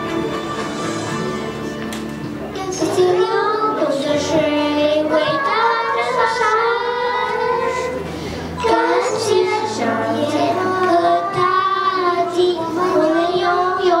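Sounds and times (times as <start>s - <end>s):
musical accompaniment: 0.0s - 14.0s
children singing: 2.6s - 14.0s.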